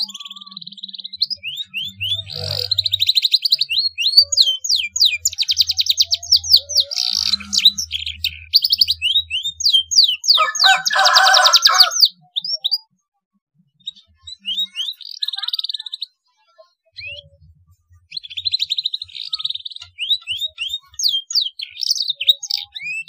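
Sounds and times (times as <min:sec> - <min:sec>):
canary singing trills: 0:00.0 - 0:13.0, 0:13.7 - 0:23.0.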